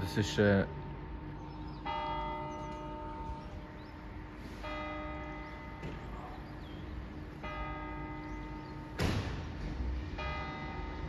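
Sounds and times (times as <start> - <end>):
church bell tolling: 1.4 - 11.0.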